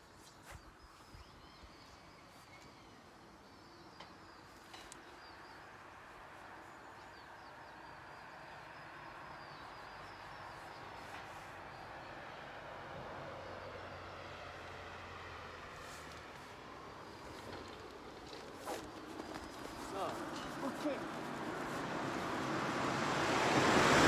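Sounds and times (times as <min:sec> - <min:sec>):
small birds chirping: 0:00.0 - 0:12.6, 0:13.5 - 0:22.6.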